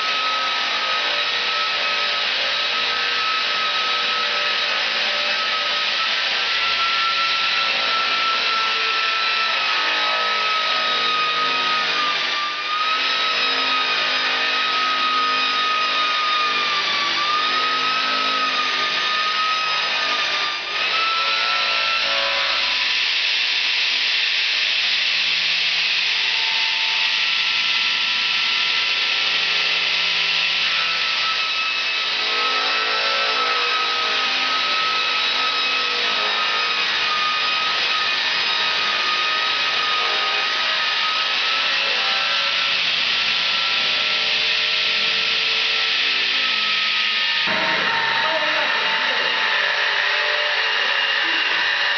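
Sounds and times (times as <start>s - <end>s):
saw blade whine cutting wood: 0.0s - 51.9s.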